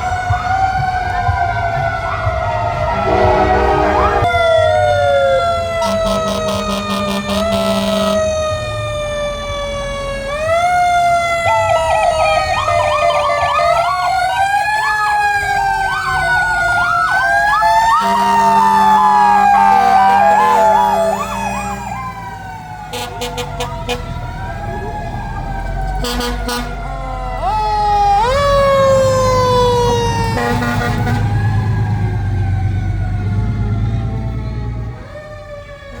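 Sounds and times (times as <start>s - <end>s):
wailing fire engine siren: 0.0s - 36.0s
warbling siren: 0.0s - 36.0s.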